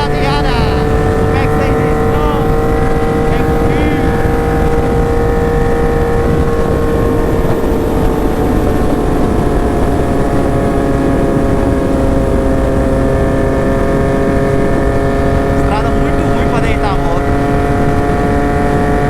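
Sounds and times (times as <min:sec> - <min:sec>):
constant rushing noise: 0:00.0 - 0:19.0
motorcycle engine running: 0:00.0 - 0:19.0.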